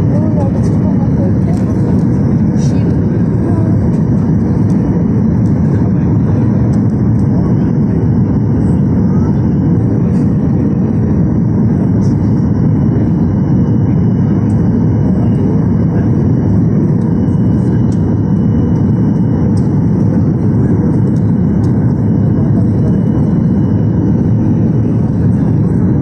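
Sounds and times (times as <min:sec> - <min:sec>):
jet engines and air roar: 0:00.0 - 0:26.0.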